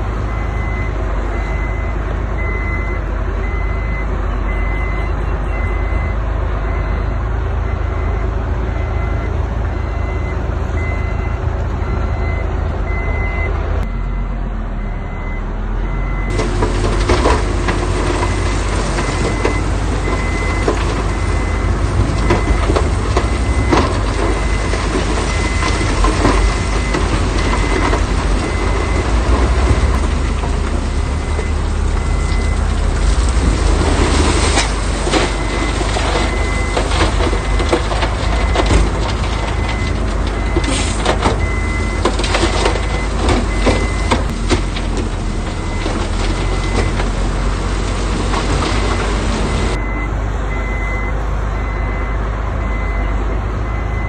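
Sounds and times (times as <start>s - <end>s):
diesel truck engine running: 0.0s - 54.0s
reversing alarm beeping: 0.3s - 32.7s, 33.8s - 44.4s, 48.6s - 54.0s.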